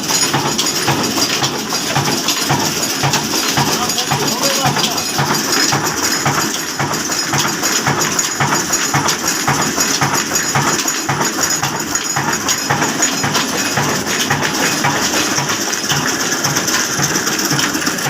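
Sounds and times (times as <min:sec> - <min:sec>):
mechanical clattering: 0:00.0 - 0:18.0
stationary diesel engine running: 0:00.0 - 0:18.0.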